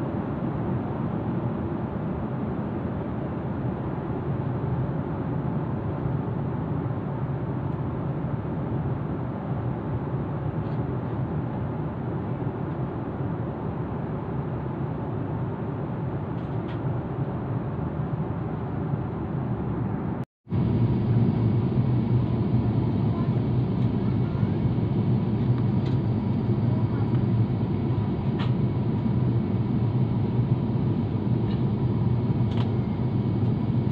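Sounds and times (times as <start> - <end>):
jet engine cabin drone: 0.0 - 33.9.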